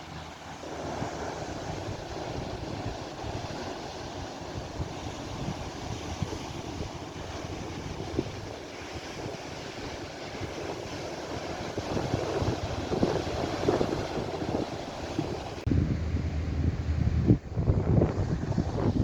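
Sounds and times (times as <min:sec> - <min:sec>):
sea waves breaking: 0:00.0 - 0:19.0
wind buffeting microphone: 0:00.0 - 0:19.0.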